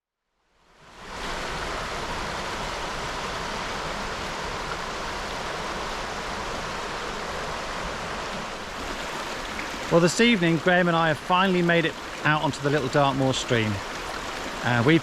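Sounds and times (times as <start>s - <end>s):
stream running: 0.7s - 15.0s.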